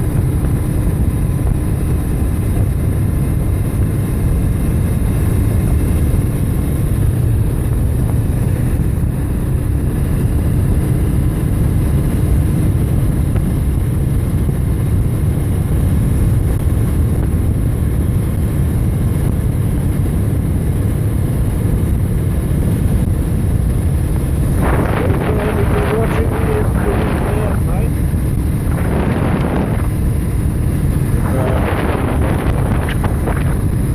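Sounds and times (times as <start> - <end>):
road and vehicle noise: 0.0 - 33.9
wind buffeting microphone: 0.0 - 33.9.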